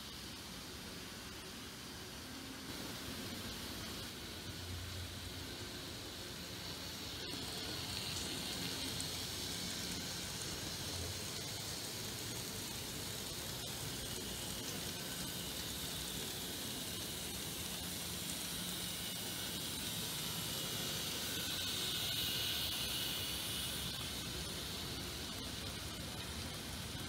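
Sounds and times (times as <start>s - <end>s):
model trains whirring: 0.0s - 27.0s.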